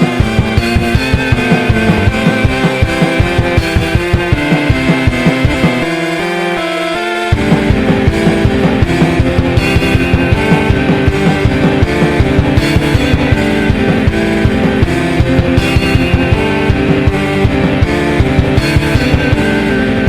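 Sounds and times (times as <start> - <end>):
instrumental music with fast beat: 0.0 - 20.0.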